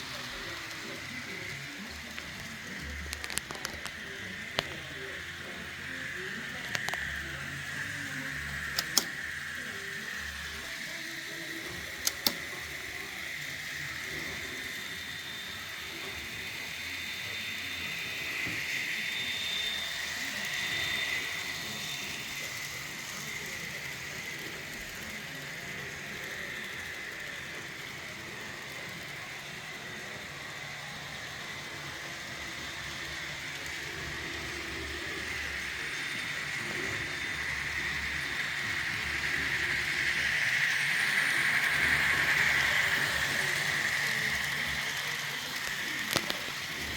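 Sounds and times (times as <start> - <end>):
model train motor whir: 0.0 - 46.9.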